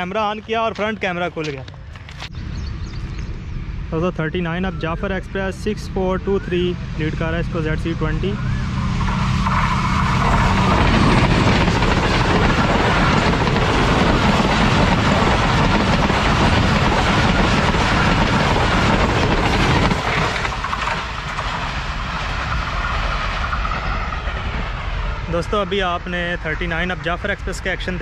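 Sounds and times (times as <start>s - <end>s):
train wheels rumbling and clattering: 5.0s - 28.0s.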